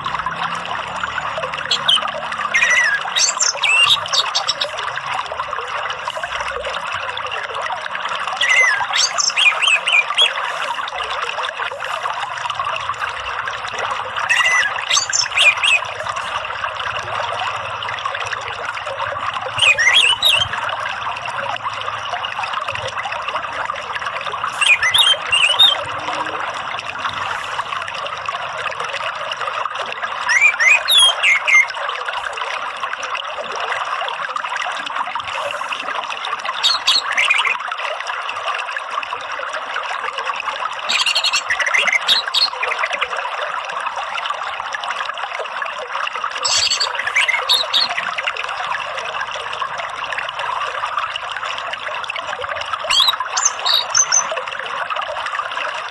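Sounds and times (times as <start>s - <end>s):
running water rushing: 0.0s - 55.9s.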